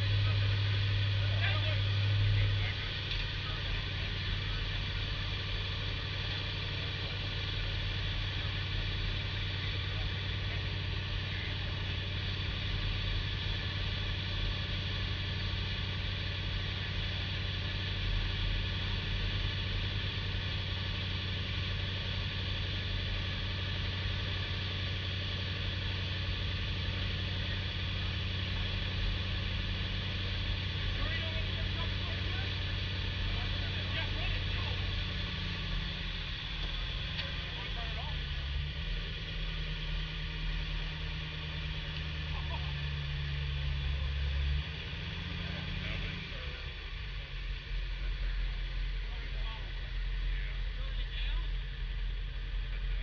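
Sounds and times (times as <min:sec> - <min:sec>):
pickup engine idling: 0:00.0 - 0:53.0.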